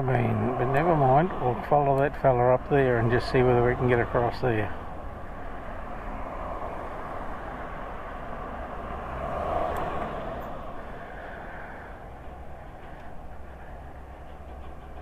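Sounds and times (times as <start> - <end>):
vehicle passing by: 0.0 - 13.0
road traffic noise: 0.0 - 15.0.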